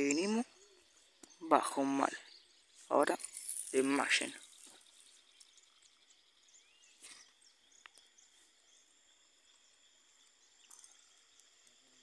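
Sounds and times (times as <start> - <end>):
bird chirps: 0.0 - 12.0
insect trilling: 0.0 - 12.0.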